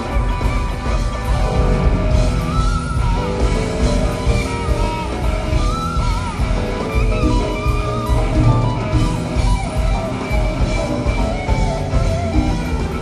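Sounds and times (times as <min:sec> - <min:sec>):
electric guitar bending notes: 0:00.0 - 0:13.0
live band playing: 0:00.0 - 0:13.0.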